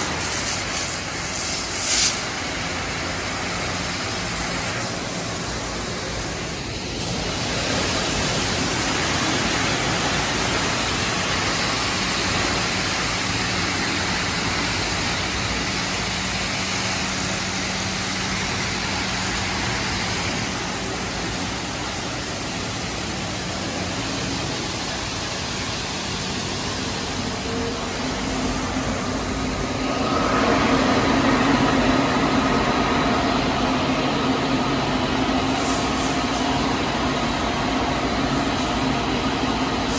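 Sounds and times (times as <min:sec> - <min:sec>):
car wash machinery working: 0:00.0 - 0:39.9
steady hum: 0:00.0 - 0:39.9
water spraying: 0:00.0 - 0:39.9.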